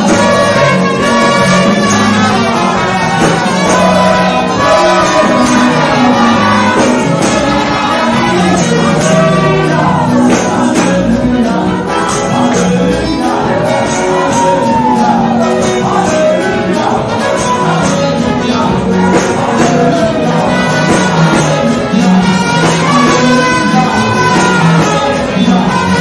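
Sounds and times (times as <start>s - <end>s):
gospel band with steady beat: 0.0s - 26.0s
man singing: 0.0s - 26.0s
woman singing: 0.0s - 26.0s.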